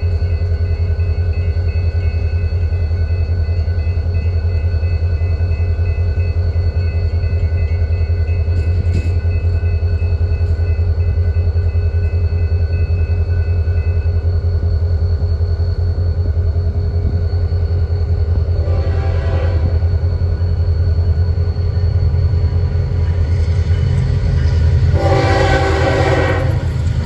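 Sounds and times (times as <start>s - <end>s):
diesel locomotive rumble: 0.0s - 27.0s.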